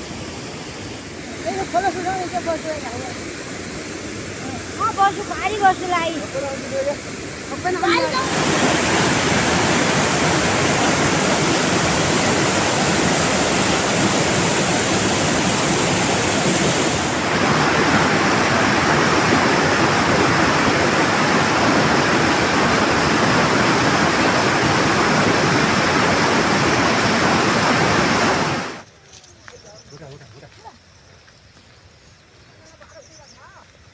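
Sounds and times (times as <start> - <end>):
rushing water: 0.0 - 28.8.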